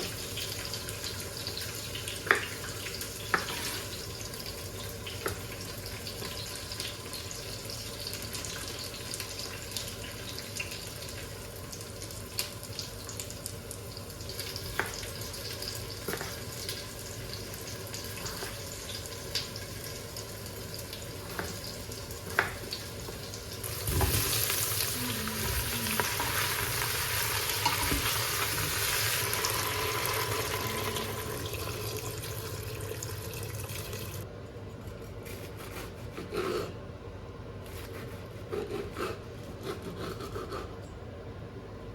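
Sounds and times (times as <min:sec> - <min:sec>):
food sizzling in a pan: 0:00.0 - 0:34.2.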